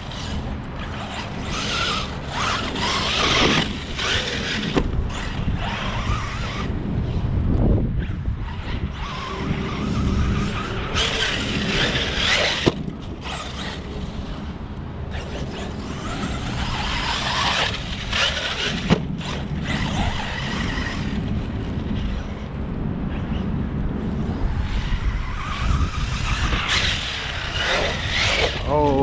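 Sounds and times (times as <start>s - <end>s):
electric motor whining: 0.0s - 22.5s, 24.0s - 29.0s
tires spinning and throwing dirt: 0.0s - 29.0s.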